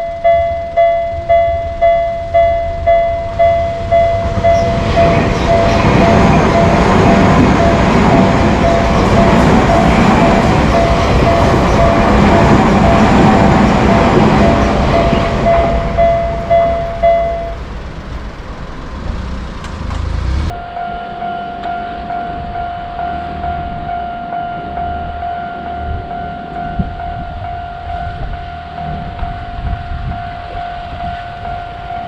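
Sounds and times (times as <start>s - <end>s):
crossing warning bell ringing: 0.0s - 18.9s, 20.5s - 32.0s
crossing warning steady tone: 0.0s - 32.0s
train rumbling past: 0.0s - 32.0s.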